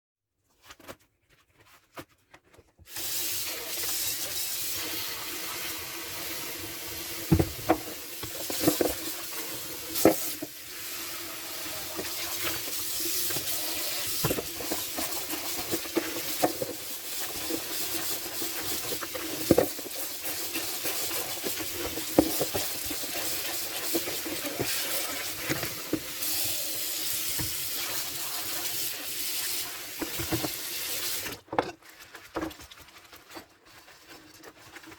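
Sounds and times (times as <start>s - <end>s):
tap water running into sink: 2.9s - 31.4s.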